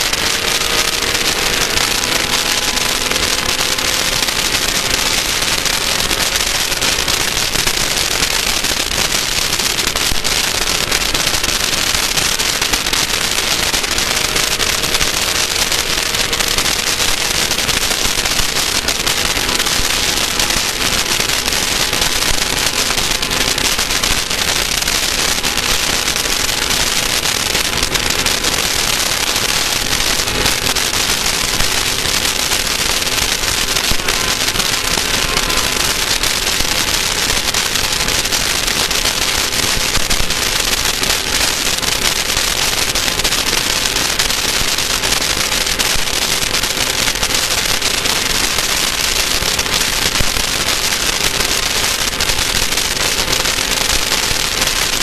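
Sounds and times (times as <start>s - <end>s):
race car engine running: 0.0s - 47.1s
loud crackling rattle: 0.0s - 55.0s.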